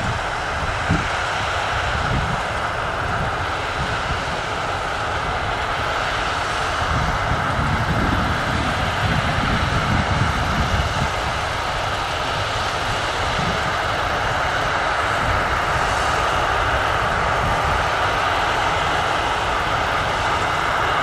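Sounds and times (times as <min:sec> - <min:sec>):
combine harvester engine and machinery: 0:00.0 - 0:21.0.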